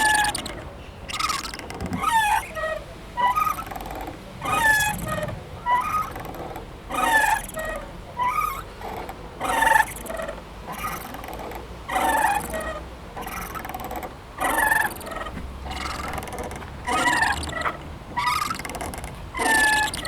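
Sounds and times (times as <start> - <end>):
playground swing creaking: 0.0 - 20.0.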